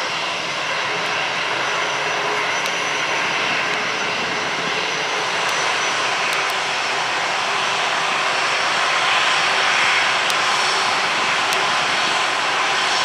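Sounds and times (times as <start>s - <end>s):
jet airliner engines climbing: 0.0s - 13.0s.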